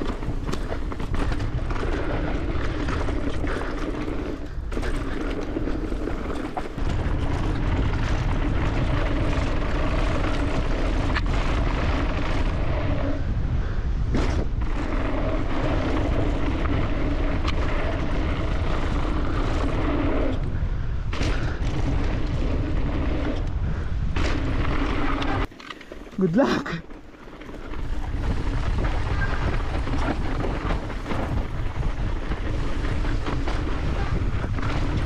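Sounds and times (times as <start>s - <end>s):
wind rumble on microphone: 0.0s - 25.5s, 26.7s - 35.0s
bike tyre noise on dirt: 0.0s - 35.0s.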